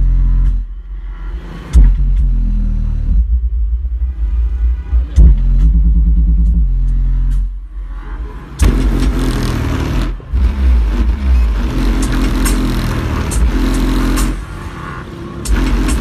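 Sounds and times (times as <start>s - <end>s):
loud deep bass music: 0.0s - 16.0s.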